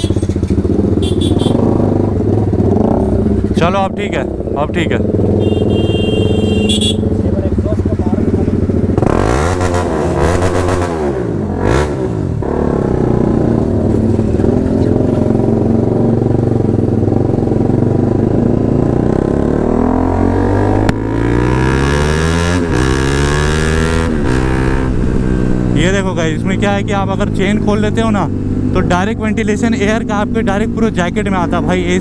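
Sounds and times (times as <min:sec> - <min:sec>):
motorcycle accelerating through gears: 0:00.0 - 0:32.0.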